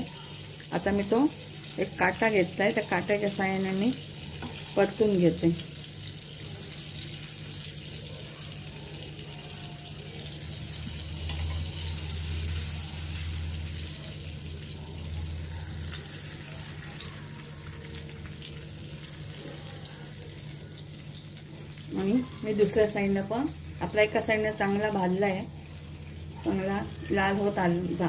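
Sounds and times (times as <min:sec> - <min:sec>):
fish sizzling in oil: 0:00.0 - 0:28.0.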